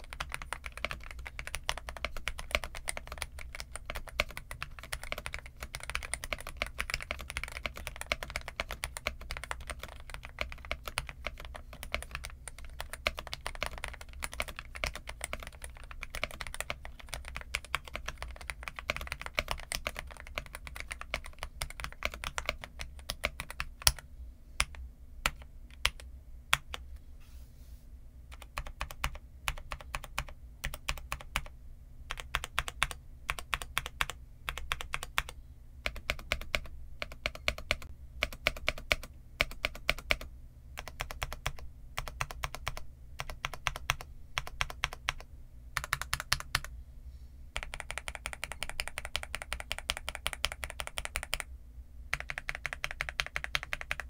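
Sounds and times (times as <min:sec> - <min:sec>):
mechanical keyboard typing: 0:00.0 - 0:24.0, 0:24.6 - 0:26.8, 0:28.3 - 0:31.5, 0:32.1 - 0:46.7, 0:47.6 - 0:51.5, 0:52.1 - 0:54.0.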